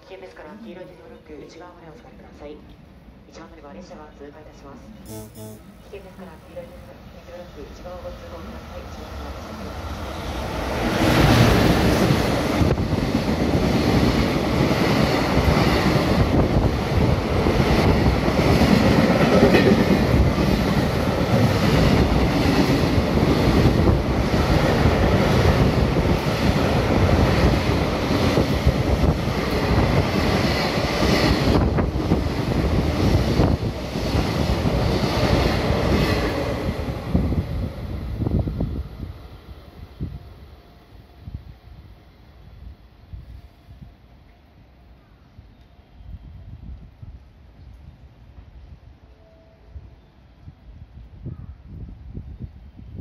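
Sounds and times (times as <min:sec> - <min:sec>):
freight train passing: 0:00.2 - 0:51.2.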